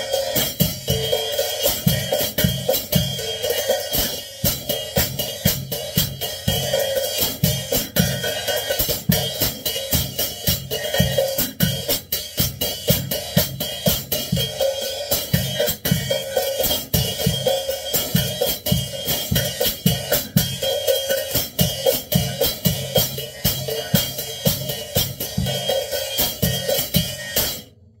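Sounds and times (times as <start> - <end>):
drum kit groove: 0.0 - 27.7.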